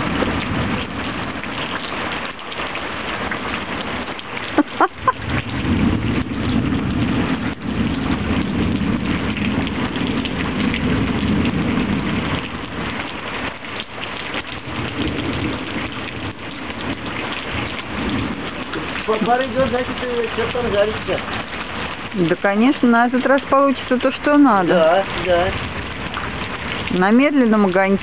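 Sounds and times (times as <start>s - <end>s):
heavy rain pouring: 0.0s - 28.0s
thunder rumbling: 0.0s - 28.0s.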